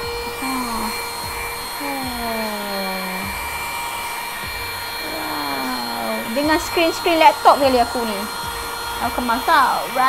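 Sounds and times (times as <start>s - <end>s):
handheld vacuum cleaner whine: 0.0s - 10.0s
low tone sliding down in pitch: 0.0s - 10.0s.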